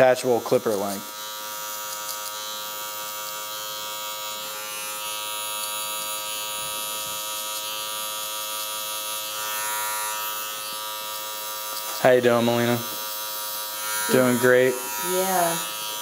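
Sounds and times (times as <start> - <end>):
electric hair clipper buzzing: 0.0 - 16.0.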